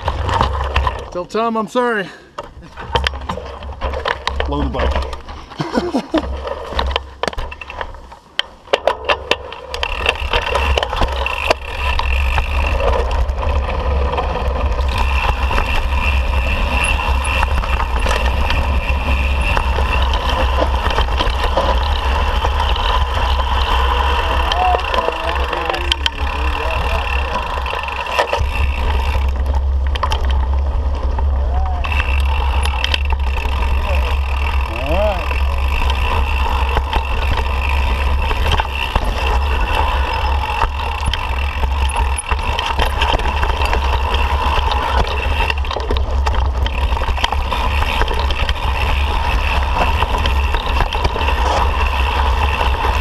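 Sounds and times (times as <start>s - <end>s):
bike rattling: 0.0s - 53.0s
tyres rolling over dirt: 0.0s - 53.0s
sharp clicks and knocks: 2.4s - 5.4s, 6.2s - 34.7s, 35.3s - 53.0s
steady whir: 9.4s - 53.0s
wind rumbling on microphone: 9.9s - 53.0s.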